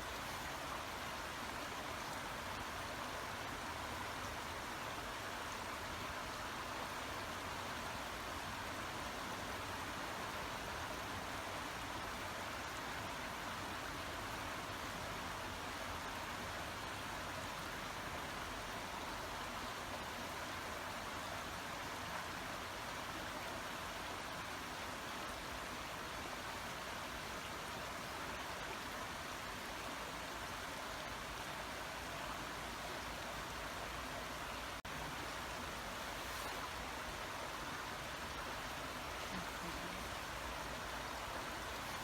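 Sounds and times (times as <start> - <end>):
brook water burbling: 0.0 - 42.0.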